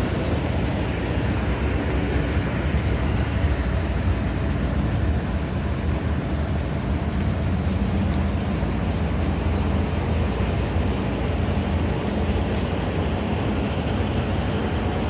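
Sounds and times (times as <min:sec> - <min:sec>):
low city background rumble: 0:00.0 - 0:15.0.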